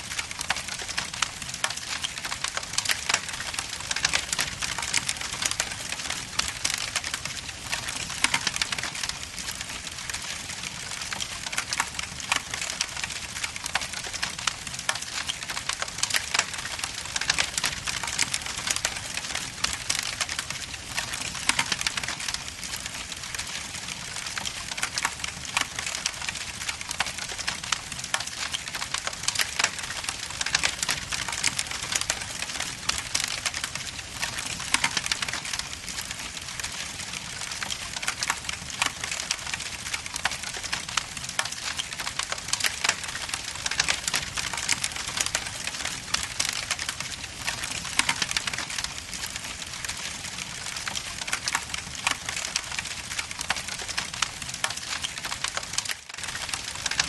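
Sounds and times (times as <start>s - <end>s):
wood logs crackling in fireplace: 0.0s - 57.0s.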